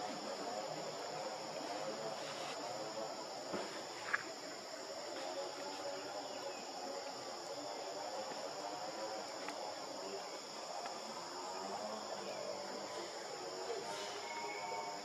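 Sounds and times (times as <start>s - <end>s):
insects chirping chorus: 0.0s - 15.0s.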